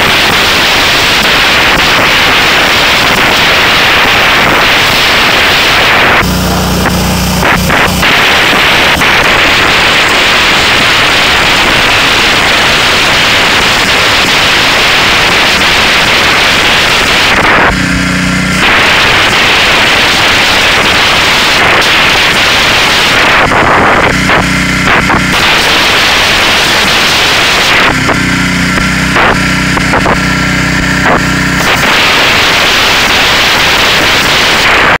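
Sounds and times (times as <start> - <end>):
pressure washer spraying water: 0.0 - 35.0.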